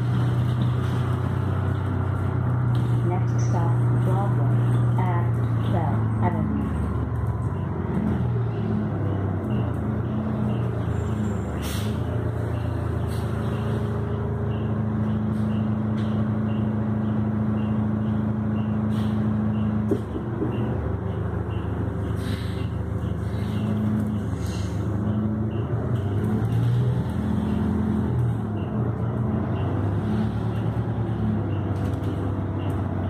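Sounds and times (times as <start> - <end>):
bus engine humming: 0.0 - 33.0.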